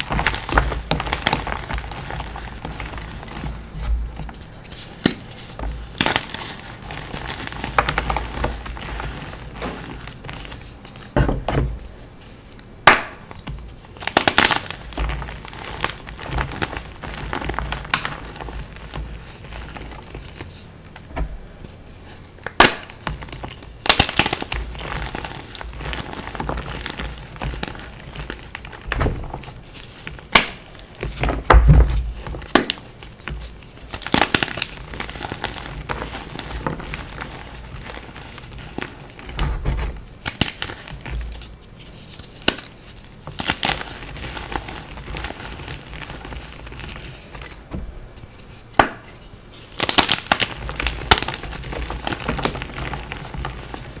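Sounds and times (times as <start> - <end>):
chalk crunching and cracking: 0.0 - 11.2, 11.8 - 20.7, 21.6 - 54.0.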